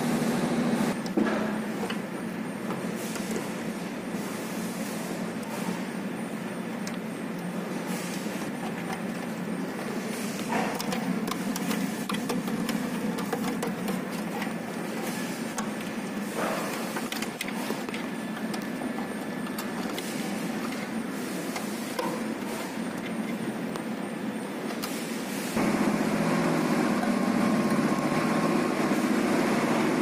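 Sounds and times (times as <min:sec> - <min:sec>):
machine hum: 0:00.0 - 0:30.0.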